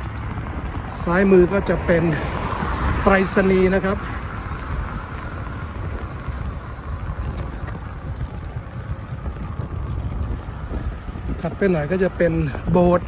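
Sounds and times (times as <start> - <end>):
road noise: 0.0 - 13.0
wind rumbling on microphone: 0.0 - 13.0.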